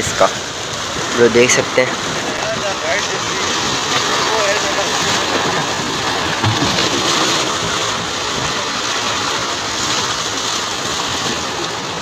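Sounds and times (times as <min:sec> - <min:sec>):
sea surf washing over rocks: 0:00.0 - 0:12.0.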